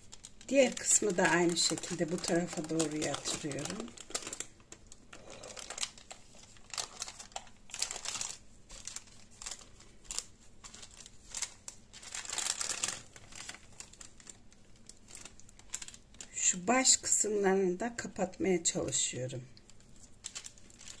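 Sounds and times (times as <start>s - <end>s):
baking paper crinkling: 0.0s - 17.3s, 18.9s - 21.0s.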